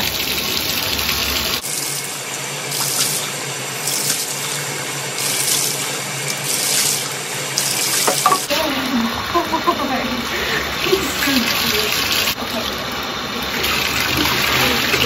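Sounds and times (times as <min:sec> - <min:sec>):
water running from bathtub tap: 0:00.0 - 0:15.0.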